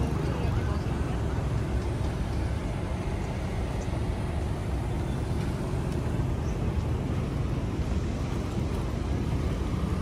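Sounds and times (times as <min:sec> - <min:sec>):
passing cars and motorbikes: 0:00.0 - 0:10.0.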